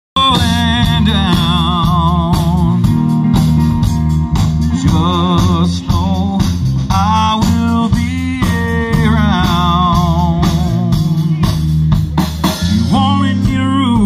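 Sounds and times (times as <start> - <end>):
drum beat: 0.2 - 14.0
electric guitars: 0.2 - 14.0.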